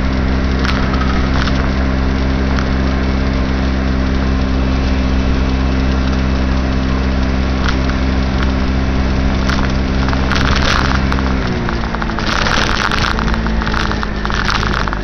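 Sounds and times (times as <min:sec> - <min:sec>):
moped engine running: 0:00.0 - 0:15.0
wind and road noise: 0:00.0 - 0:15.0.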